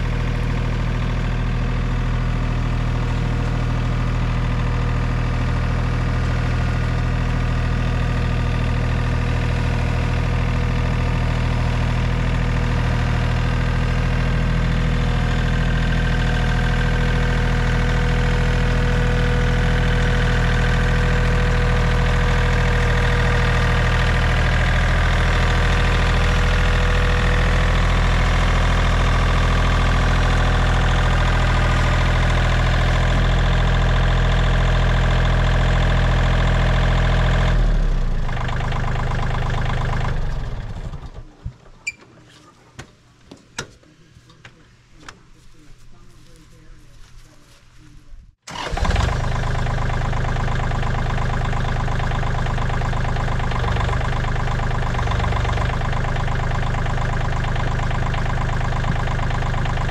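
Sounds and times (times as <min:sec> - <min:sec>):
tractor engine running: 0:00.0 - 0:42.0, 0:48.5 - 0:59.9.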